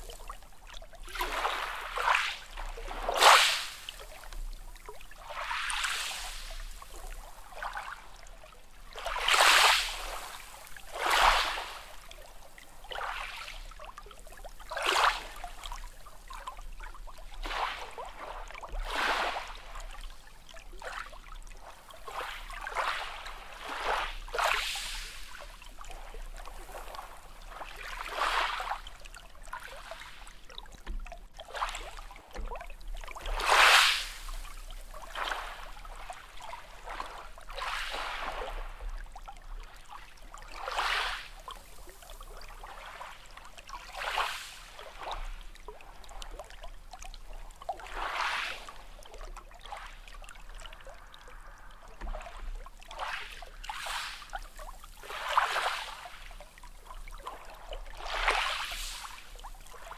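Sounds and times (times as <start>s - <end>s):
small sea waves washing in: 0.0s - 59.9s.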